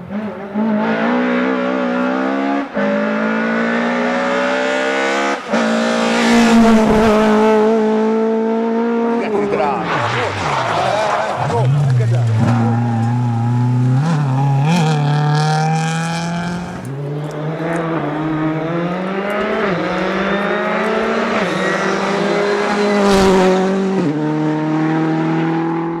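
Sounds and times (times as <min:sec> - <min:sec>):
rally car engine shifting gears: 0:00.0 - 0:26.0.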